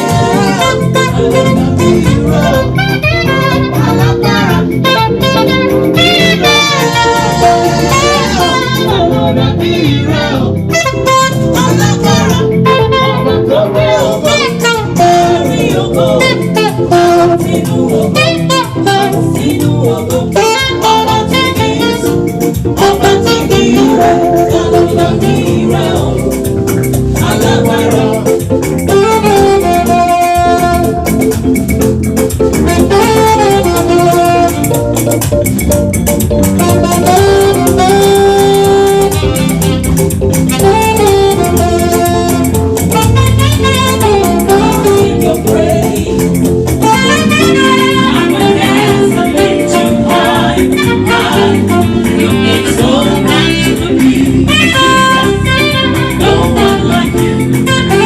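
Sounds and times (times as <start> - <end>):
live gospel band music: 0.0 - 58.0
saxophone lead melody: 0.0 - 58.0.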